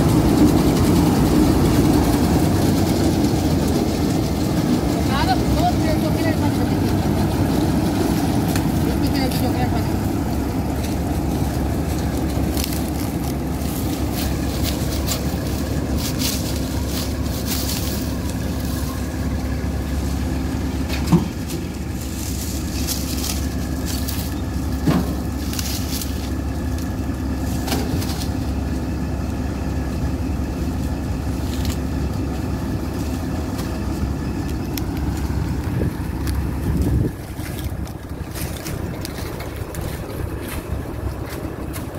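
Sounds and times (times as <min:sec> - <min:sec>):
combine harvester engine idling: 0:00.0 - 0:41.9.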